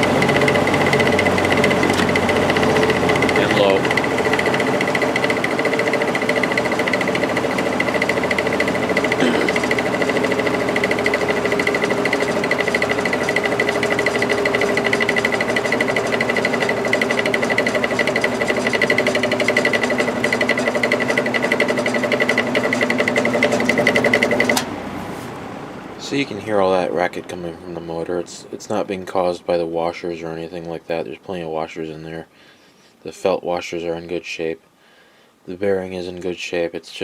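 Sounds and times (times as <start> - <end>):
fan motor pulsing hum and rattle: 0.0 - 32.2.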